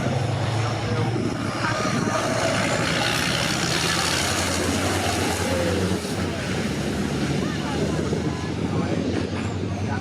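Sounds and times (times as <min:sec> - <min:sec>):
racing truck diesel engines: 0:00.0 - 0:10.0.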